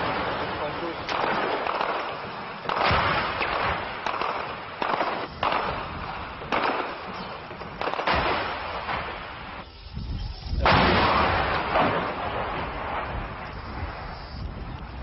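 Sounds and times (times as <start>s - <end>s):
echoing gunshots: 0.0s - 9.6s, 10.6s - 13.4s.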